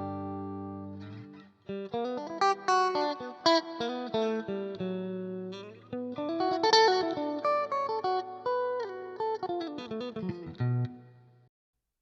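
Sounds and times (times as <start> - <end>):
electric guitar single notes: 0.0 - 11.3.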